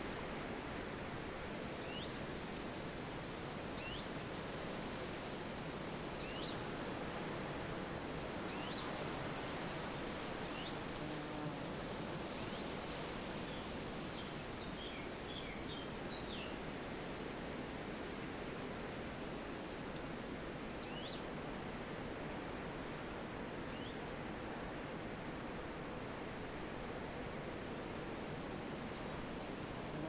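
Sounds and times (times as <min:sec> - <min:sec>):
forest wind: 0:00.0 - 0:30.0.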